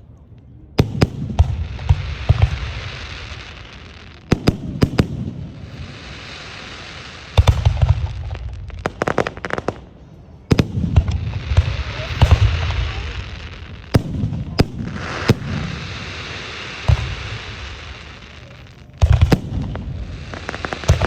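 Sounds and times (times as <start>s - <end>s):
fireworks crackling pops: 0.4s - 21.0s
fireworks booming: 0.8s - 21.0s
fireworks hiss: 1.4s - 9.9s, 11.0s - 21.0s.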